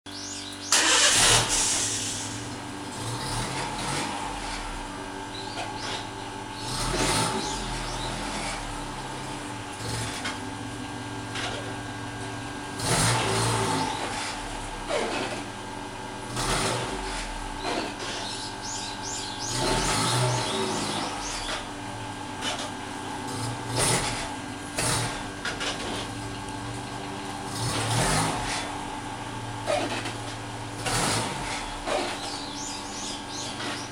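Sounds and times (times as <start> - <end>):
van engine revving: 0.1 - 33.9.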